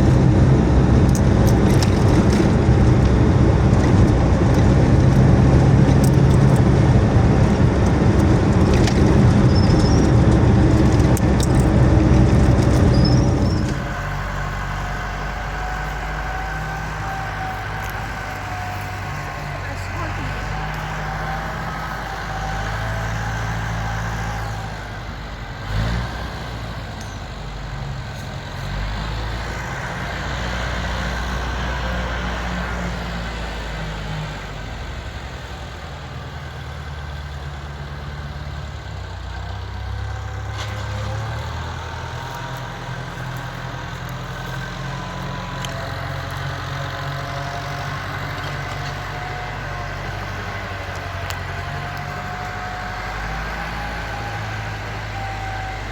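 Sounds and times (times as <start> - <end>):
vehicle engine rumbling: 0.0 - 55.9.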